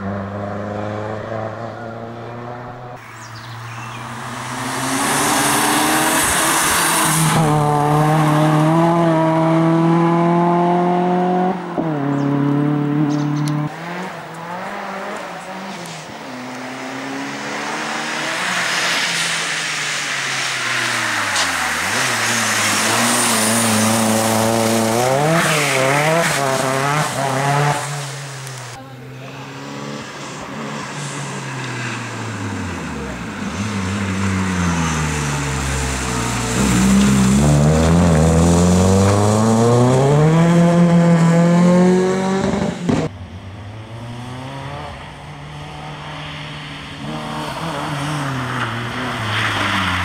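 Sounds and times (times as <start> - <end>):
rally car engine revving: 0.0 - 50.0.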